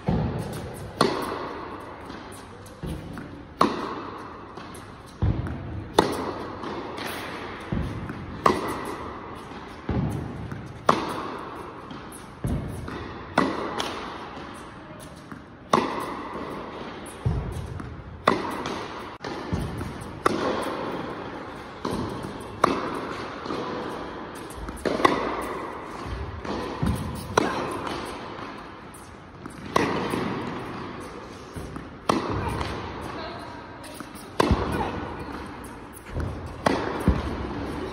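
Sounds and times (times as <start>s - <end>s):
rackets striking tennis ball: 0.0s - 37.9s
tennis ball bouncing: 0.0s - 37.9s.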